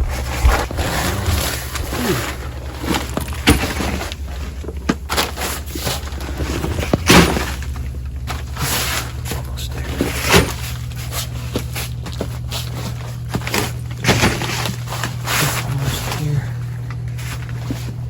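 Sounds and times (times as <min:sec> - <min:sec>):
scraping and shuffling: 0:00.0 - 0:18.0
steady low hum: 0:00.0 - 0:18.0.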